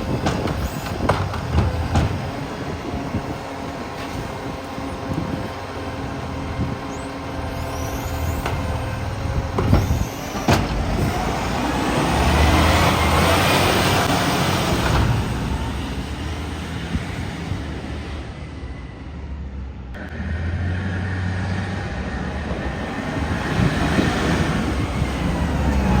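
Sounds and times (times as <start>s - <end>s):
garbage truck engine rumbling: 0.0s - 26.0s.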